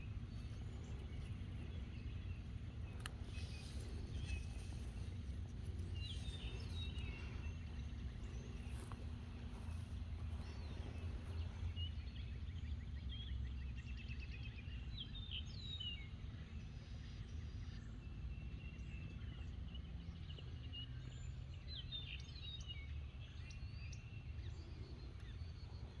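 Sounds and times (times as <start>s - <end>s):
steady low rumble: 0.0s - 21.7s
birds singing and chirping: 0.0s - 26.0s.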